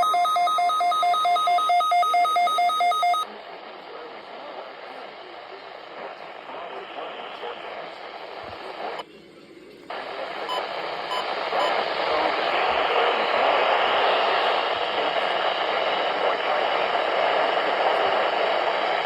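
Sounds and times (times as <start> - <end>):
radio static hiss: 2.1 - 9.1, 9.9 - 19.0.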